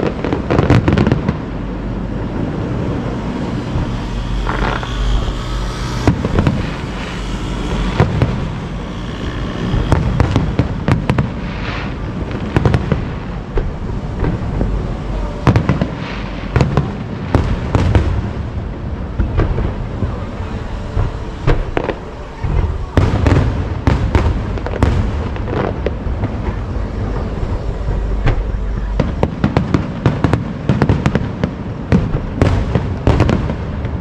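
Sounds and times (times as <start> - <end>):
fireworks bangs and crackles: 0.0 - 34.0
low rumble: 0.0 - 34.0.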